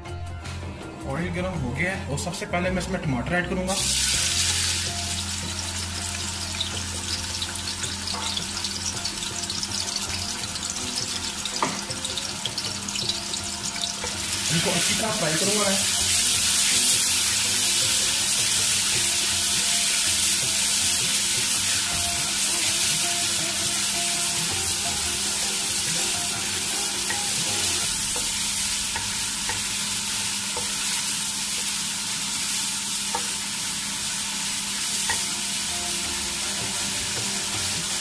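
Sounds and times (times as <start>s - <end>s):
tomatoes sizzling in hot oil: 3.6s - 38.0s.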